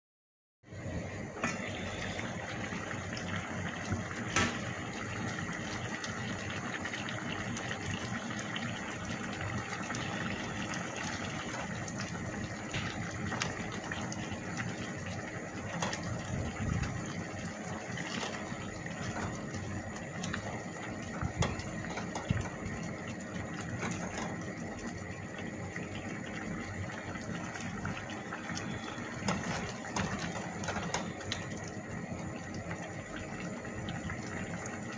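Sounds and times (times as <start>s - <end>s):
sauce simmering and bubbling: 0.7s - 34.9s.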